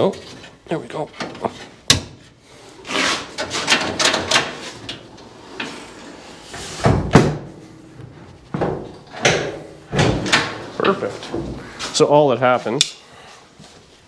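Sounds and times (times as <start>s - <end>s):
parts clattering and scraping: 0.0s - 13.0s.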